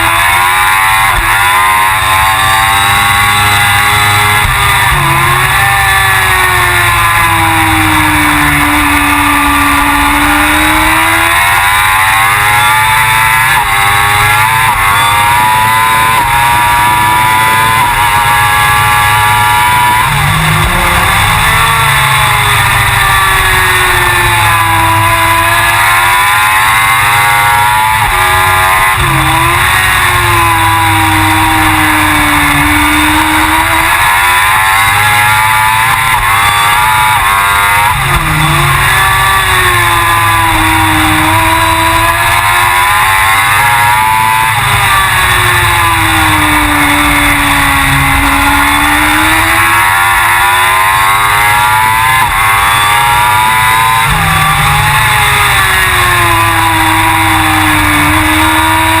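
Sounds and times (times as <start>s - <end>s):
motorcycle engine revving at racing speed: 0.0s - 59.0s.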